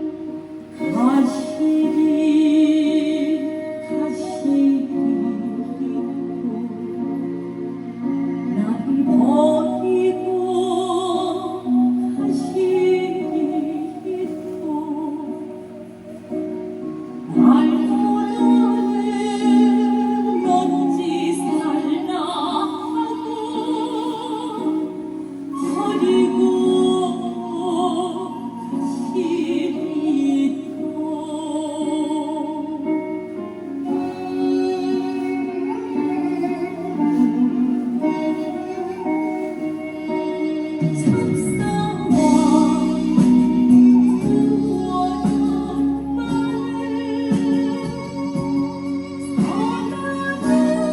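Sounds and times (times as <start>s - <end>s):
singing with heavy vibrato: 0.0s - 50.9s
steady held musical tones: 0.0s - 50.9s.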